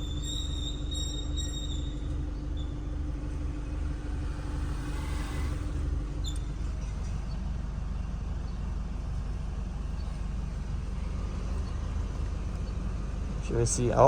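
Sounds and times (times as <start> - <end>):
pickup engine and road noise: 0.0 - 14.0.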